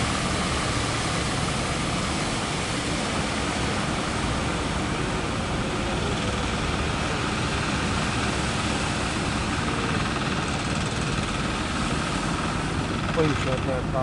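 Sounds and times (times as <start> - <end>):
fishing boat engines droning: 0.0 - 14.0.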